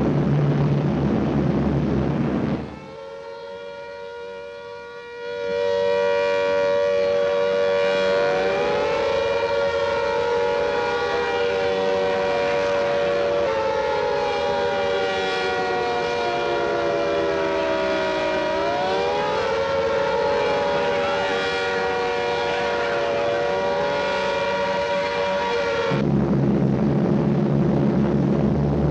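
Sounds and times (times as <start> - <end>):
air-raid sirens wailing: 0.0 - 28.9.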